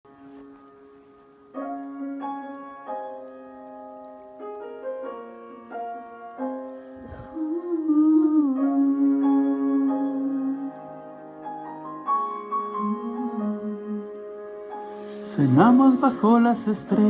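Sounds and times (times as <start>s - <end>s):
slow piano notes: 0.1s - 17.0s.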